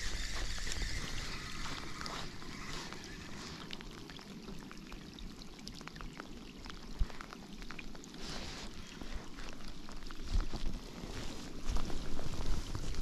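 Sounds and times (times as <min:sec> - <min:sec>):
rain drops ticking on jacket: 0:00.0 - 0:13.0
rain falling on lake: 0:00.0 - 0:13.0.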